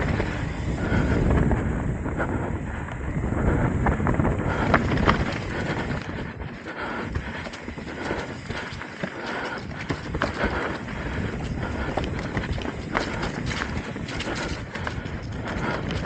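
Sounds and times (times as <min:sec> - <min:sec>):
bike chain rattling: 0:00.0 - 0:16.0
tyres rumbling over dirt and rock: 0:00.0 - 0:16.0.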